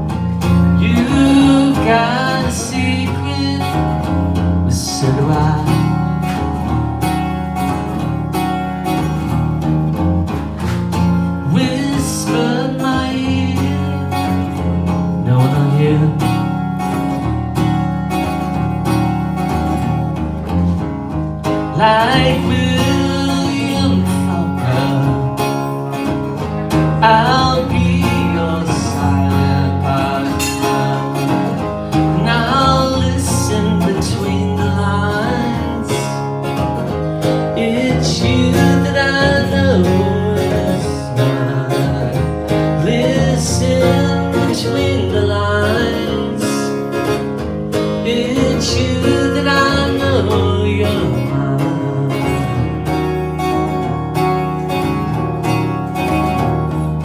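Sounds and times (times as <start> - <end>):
lead guitar with sliding notes: 0.0 - 57.0
live band with guitars: 0.0 - 57.0
steady bass line: 0.0 - 57.0.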